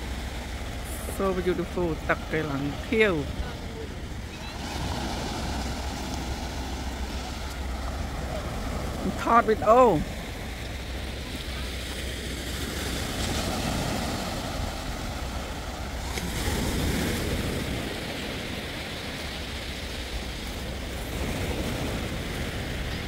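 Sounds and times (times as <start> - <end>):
waves washing on shore: 0.0 - 23.0.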